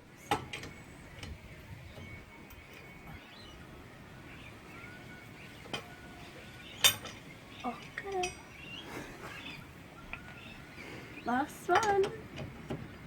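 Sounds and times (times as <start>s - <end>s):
faint bird chirps: 0.7s - 11.5s.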